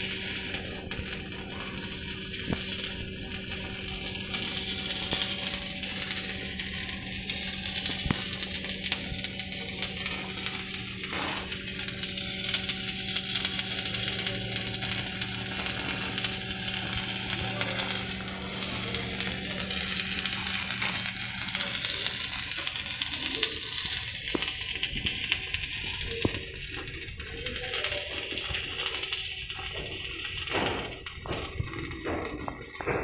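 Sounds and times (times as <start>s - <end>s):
low hum: 0.0s - 27.4s
welding arc crackling: 0.0s - 33.0s.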